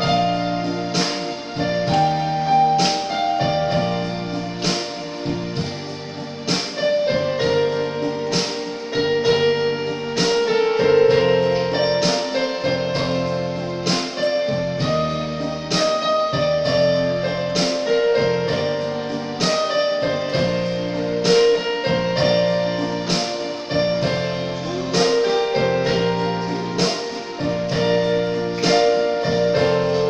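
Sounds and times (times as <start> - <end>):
electronic keyboard chords: 0.0 - 30.0.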